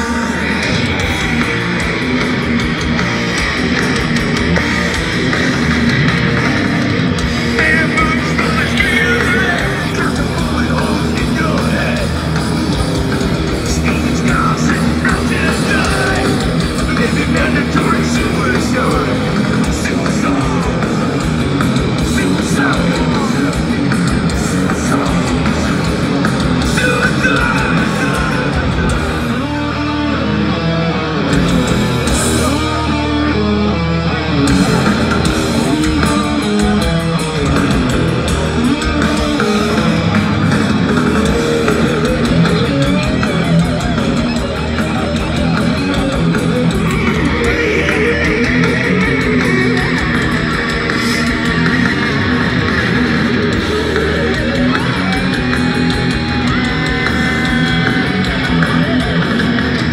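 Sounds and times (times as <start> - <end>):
drums: 0.0 - 59.9
live heavy metal band: 0.0 - 59.9.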